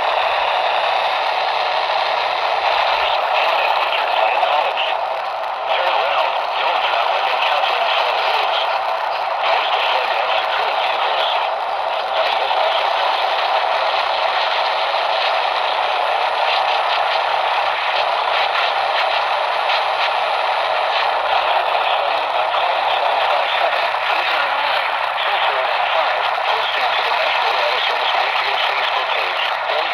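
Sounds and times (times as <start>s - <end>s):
radio static hiss and crackle: 0.0s - 29.9s.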